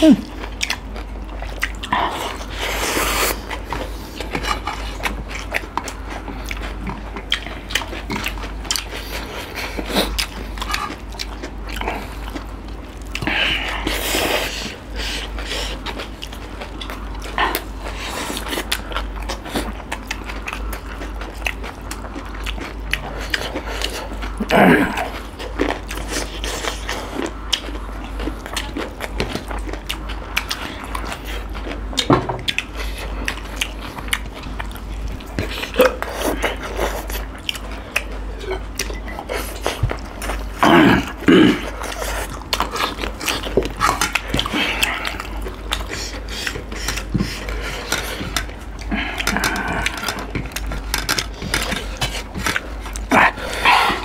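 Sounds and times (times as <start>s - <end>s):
people chewing and lip smacking: 0.0s - 54.0s.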